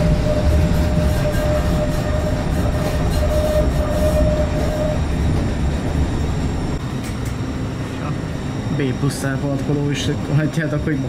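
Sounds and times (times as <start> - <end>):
high whine: 0.0 - 11.0
tram running gear rumble: 0.0 - 11.0.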